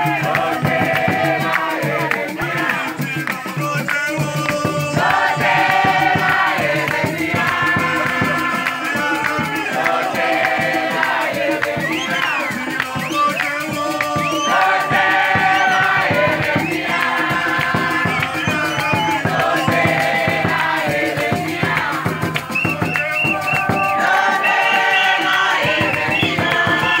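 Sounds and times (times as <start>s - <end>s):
congregation singing: 0.0s - 27.0s
steady percussive beat: 0.0s - 27.0s.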